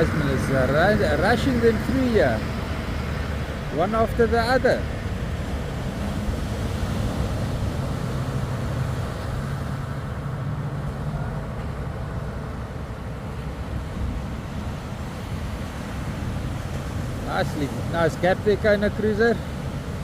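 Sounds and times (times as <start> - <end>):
wind rumble: 0.0 - 18.8
engine running steadily: 0.0 - 20.0
surf: 0.0 - 20.0.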